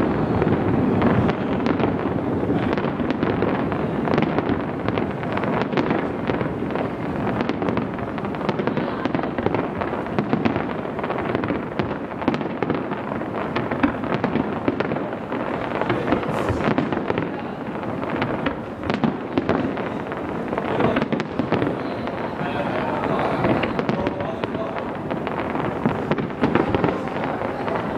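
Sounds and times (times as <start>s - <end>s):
fireworks crackling and banging: 0.0s - 27.9s.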